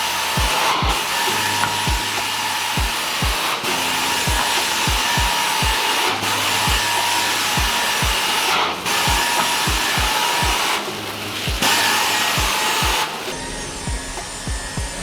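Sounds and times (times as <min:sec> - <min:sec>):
music with kick-drum beat: 0:00.0 - 0:06.0, 0:06.6 - 0:08.4, 0:09.0 - 0:10.8, 0:11.4 - 0:15.0
carpet cleaner suction hiss: 0:00.0 - 0:15.0.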